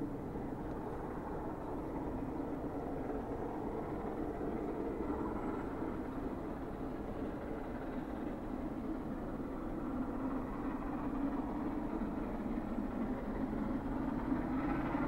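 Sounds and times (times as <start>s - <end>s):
distant vehicle rumble: 0.0s - 15.0s.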